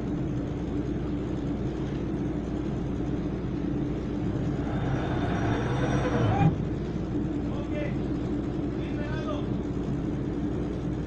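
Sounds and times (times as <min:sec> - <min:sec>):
ship engine rumbling: 0:00.0 - 0:11.0.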